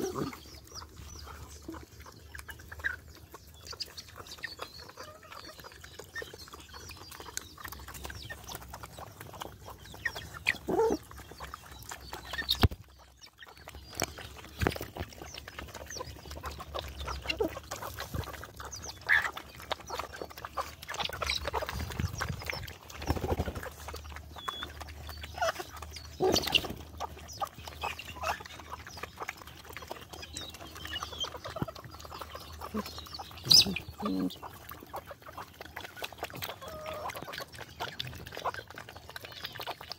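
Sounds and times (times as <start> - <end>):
chickens clucking: 0.0 - 39.9
dogs lapping and chewing: 0.0 - 39.9.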